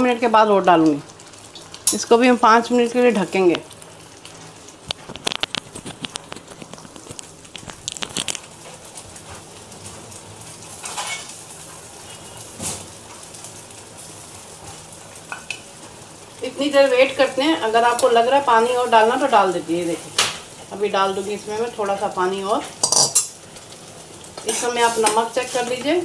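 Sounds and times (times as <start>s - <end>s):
porridge boiling and popping: 0.0s - 26.0s.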